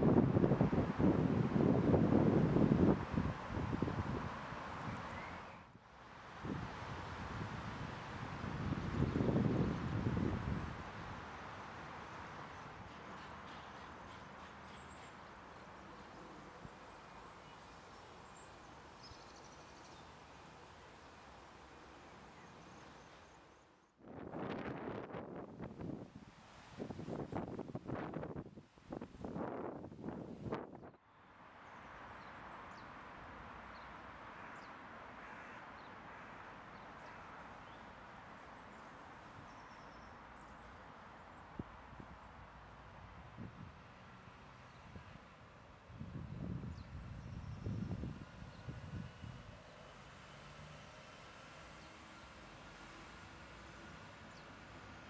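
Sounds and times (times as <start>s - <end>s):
faint outdoor hiss: 0.0s - 55.0s.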